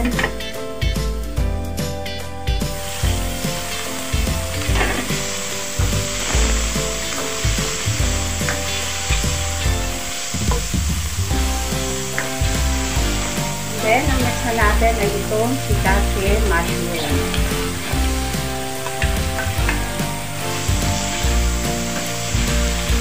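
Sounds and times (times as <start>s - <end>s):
background music with low beat: 0.0s - 23.0s
chicken sizzling in oil: 2.5s - 23.0s.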